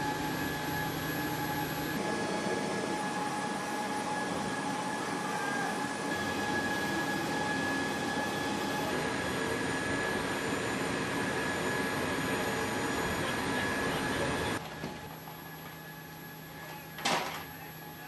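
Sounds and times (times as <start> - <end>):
jet aircraft roar with high whine: 0.0 - 18.0.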